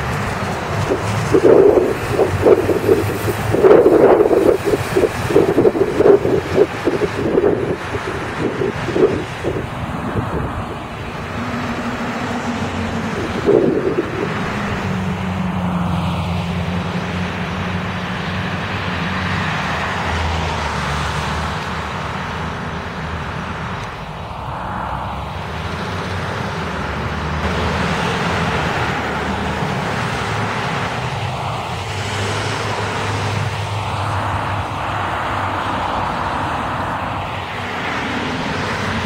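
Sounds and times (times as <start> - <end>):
car and bus engines: 0.0 - 39.0.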